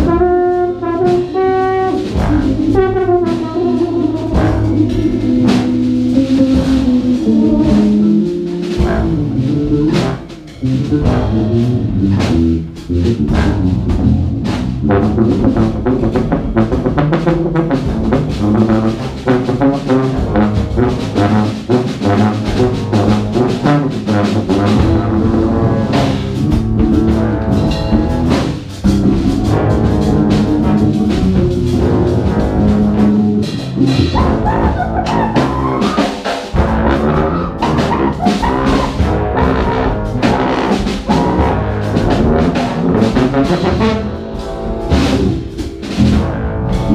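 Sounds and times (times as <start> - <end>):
jazz ensemble playing: 0.0 - 46.9.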